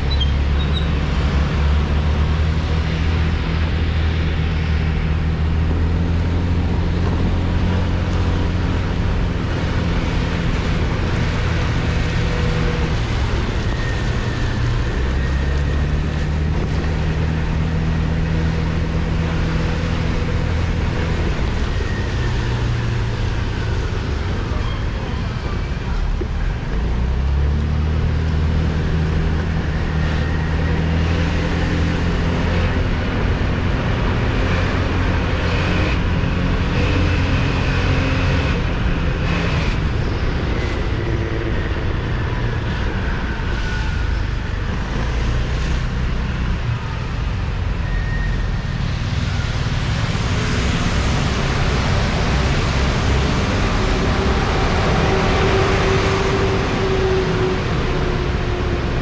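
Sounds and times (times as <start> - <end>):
rush of traffic: 0.0 - 59.0
vehicle engine humming: 0.0 - 59.0.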